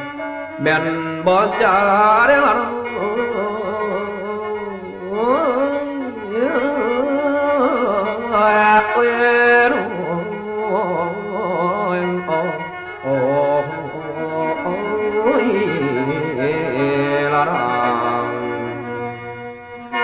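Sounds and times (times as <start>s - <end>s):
person singing ornamented vocals: 0.0s - 20.0s.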